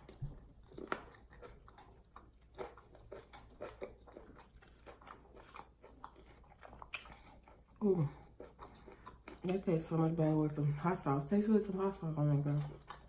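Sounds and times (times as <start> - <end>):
person chewing food: 0.0 - 10.9, 11.6 - 13.0.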